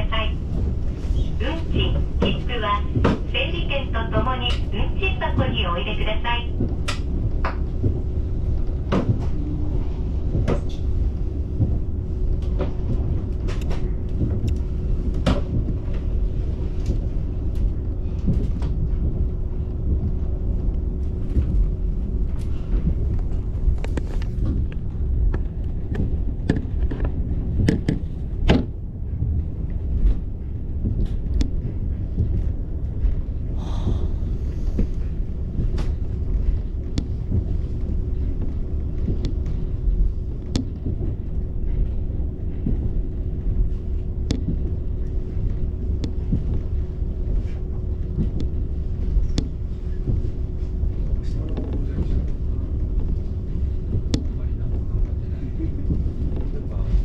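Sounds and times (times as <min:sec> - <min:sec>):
constant hum: 0:00.0 - 0:57.0
train engine and wheels rumbling: 0:00.0 - 0:57.0.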